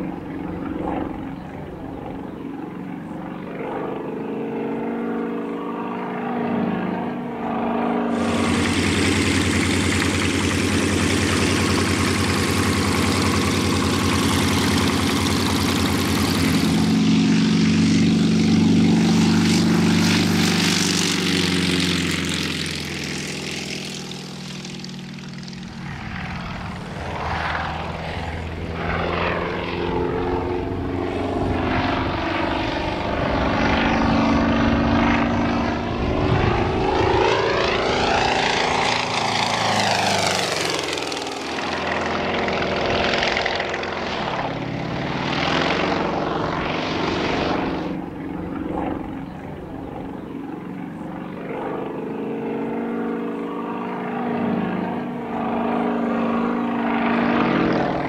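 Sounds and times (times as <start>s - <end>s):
propeller plane engine at high power: 0.0s - 58.0s.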